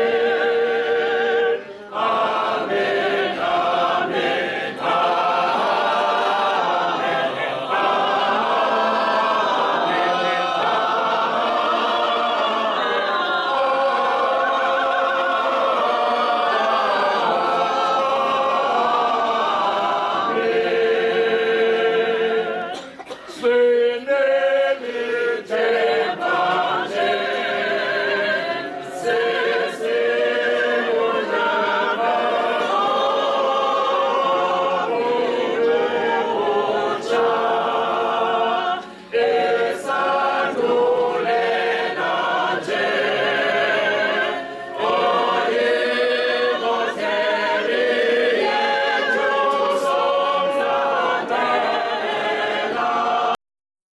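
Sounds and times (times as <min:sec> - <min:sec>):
group singing a hymn: 0:00.0 - 0:53.4.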